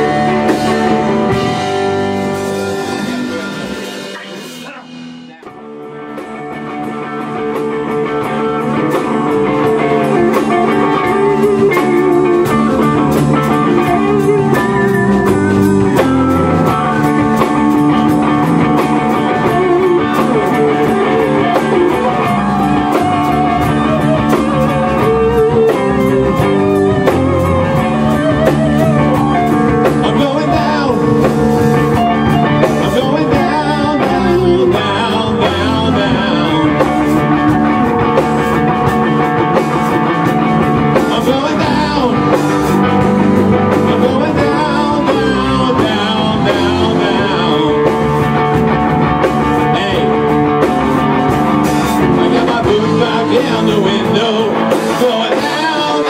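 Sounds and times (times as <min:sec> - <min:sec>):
electric guitars: 0:00.0 - 0:56.0
rock band playing live: 0:00.0 - 0:56.0.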